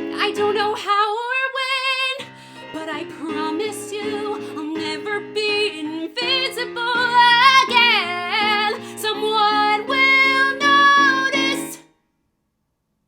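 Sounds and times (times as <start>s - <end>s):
woman singing: 0.0s - 11.8s.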